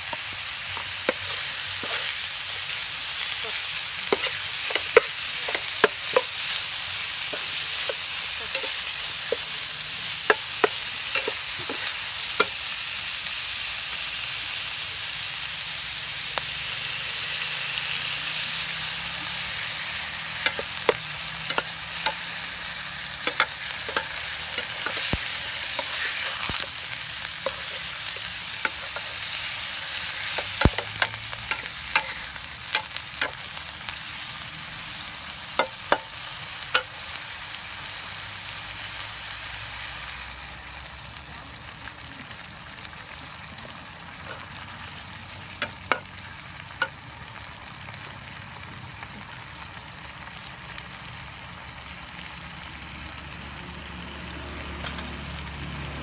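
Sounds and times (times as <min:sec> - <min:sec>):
fish frying in oil: 0:00.0 - 0:56.0.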